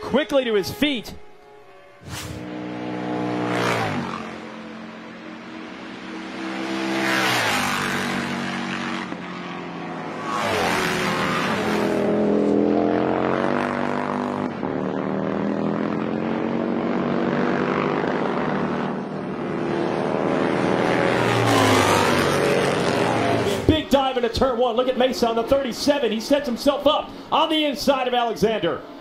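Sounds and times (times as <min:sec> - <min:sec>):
racing motorcycles passing: 0:00.0 - 0:28.2.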